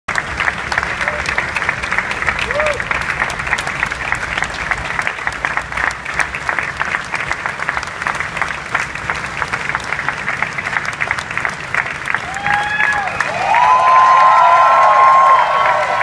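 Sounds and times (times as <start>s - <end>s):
crowd applauding: 0.1s - 16.0s.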